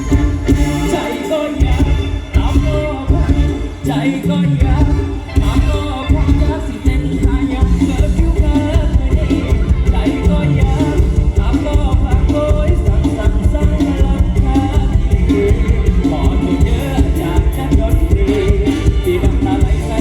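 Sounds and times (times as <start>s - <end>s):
person singing over a band: 0.0s - 20.0s.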